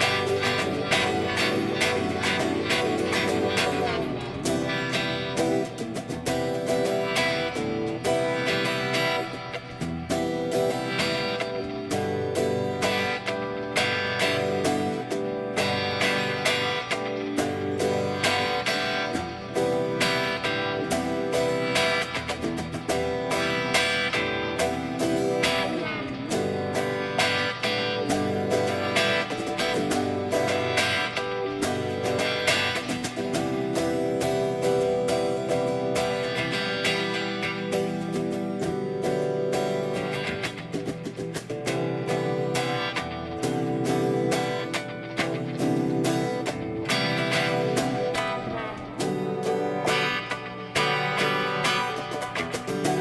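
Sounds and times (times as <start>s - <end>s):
guitar music: 0.0s - 53.0s.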